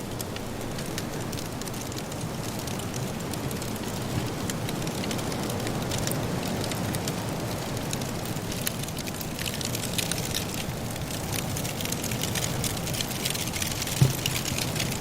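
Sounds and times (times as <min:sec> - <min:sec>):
blizzard wind: 0:00.0 - 0:15.0
wood fire crackling: 0:00.0 - 0:15.0.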